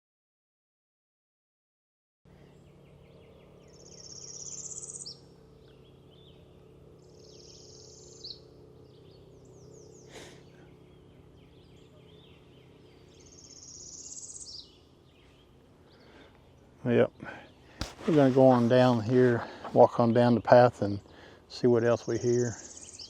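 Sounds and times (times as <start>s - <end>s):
birds chirping and trilling: 2.3s - 23.0s
songbird buzzy song: 2.3s - 23.0s.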